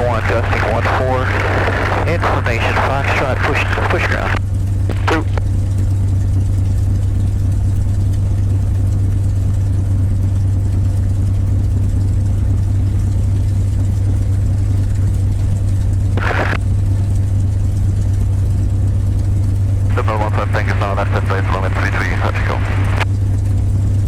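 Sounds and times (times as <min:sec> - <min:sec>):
aircraft engine idling: 0:00.0 - 0:24.0.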